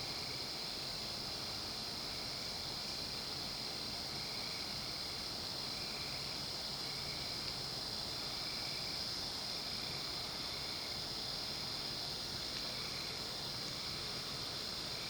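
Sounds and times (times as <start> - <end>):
low insect call: 0.0 - 15.0
night insects shrilling: 0.0 - 15.0.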